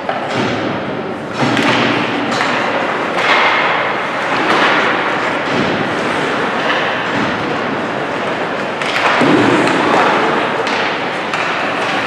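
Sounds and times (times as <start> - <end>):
ice rink crowd din: 0.0 - 12.0.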